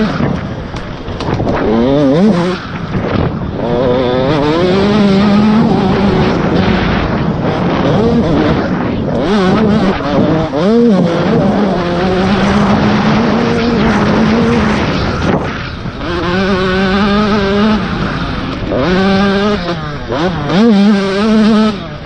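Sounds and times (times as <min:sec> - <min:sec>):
wind rushing: 0:00.0 - 0:20.7
motocross engine revving: 0:00.0 - 0:22.0.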